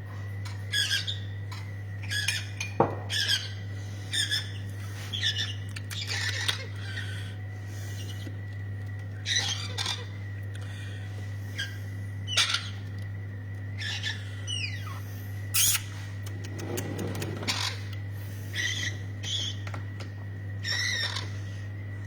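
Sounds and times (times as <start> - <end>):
steady low hum: 0.0 - 22.0
parrots calling and squawking: 0.5 - 8.4, 9.2 - 13.0, 13.8 - 19.6, 20.6 - 21.6.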